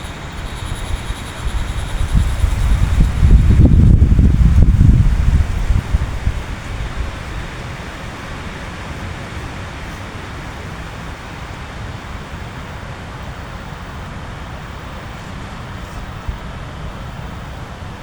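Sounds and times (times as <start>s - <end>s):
low wind rumble: 0.0s - 18.0s.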